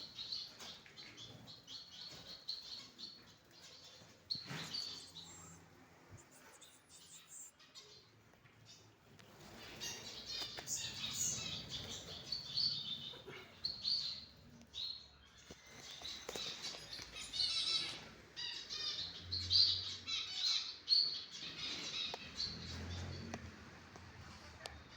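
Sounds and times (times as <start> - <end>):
finches chirping: 0.0 - 8.0, 9.4 - 23.2.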